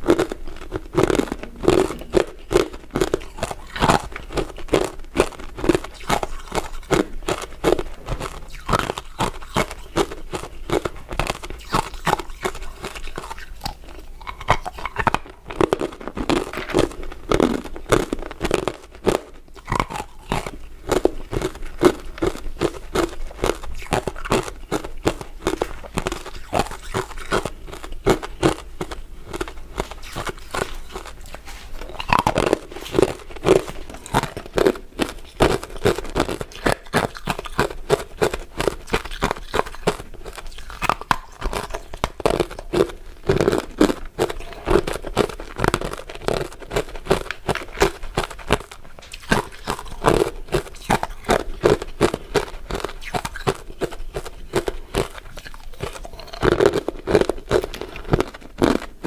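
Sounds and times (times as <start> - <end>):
crunching icy dessert: 0.0 - 59.0.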